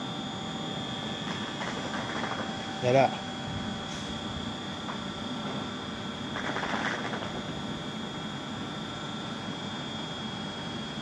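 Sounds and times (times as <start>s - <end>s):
electric train hum and rumble: 0.0s - 11.0s
high whine: 0.0s - 11.0s.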